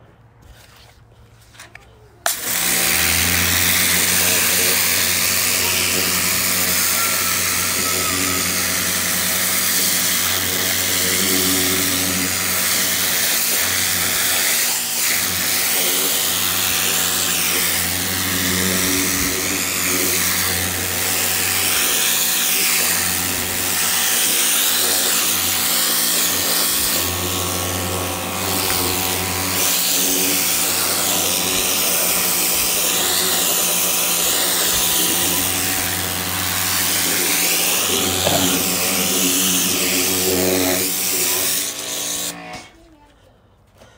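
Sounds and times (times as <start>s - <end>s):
pressure washer pump humming: 2.2s - 42.7s
water jet hissing on carpet: 2.3s - 42.4s.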